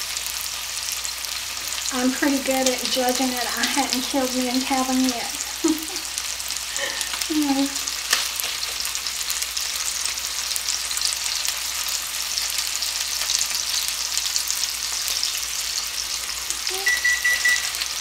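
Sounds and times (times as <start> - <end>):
chicken frying in oil: 0.0 - 18.0.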